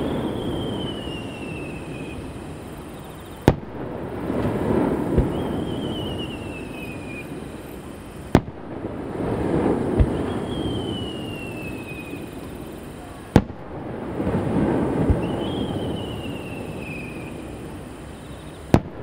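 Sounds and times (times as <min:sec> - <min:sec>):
firework bang: 0:00.0 - 0:07.7, 0:08.3 - 0:12.6, 0:13.3 - 0:19.0
firework whistles: 0:00.0 - 0:19.0.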